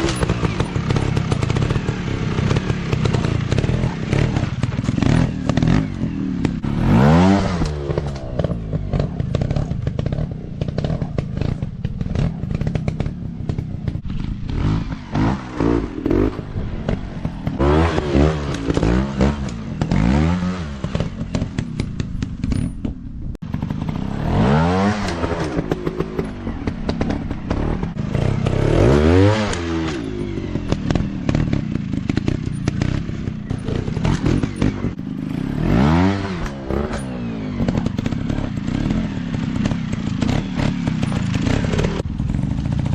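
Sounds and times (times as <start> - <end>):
dirt bike engines revving: 0.0 - 42.9
rattling and clatter: 0.0 - 42.9.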